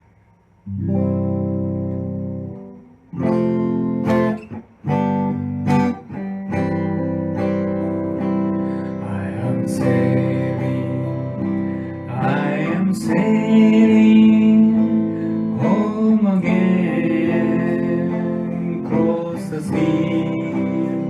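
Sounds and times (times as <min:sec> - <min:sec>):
acoustic guitar strumming: 0:00.7 - 0:21.0.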